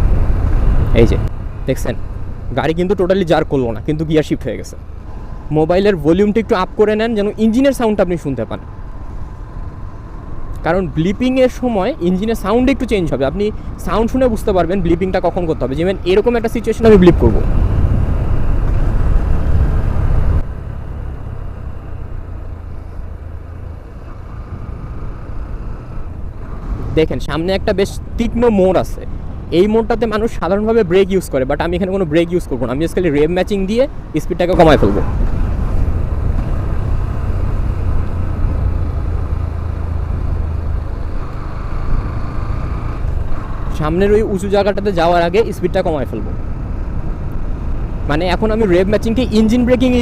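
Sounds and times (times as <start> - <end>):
motorcycle engine and road noise: 0.0 - 50.0.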